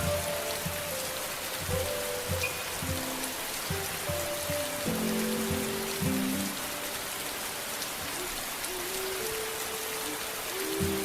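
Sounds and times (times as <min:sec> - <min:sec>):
rain hissing and pattering: 0:00.0 - 0:11.0
slow music of held notes: 0:00.0 - 0:11.0.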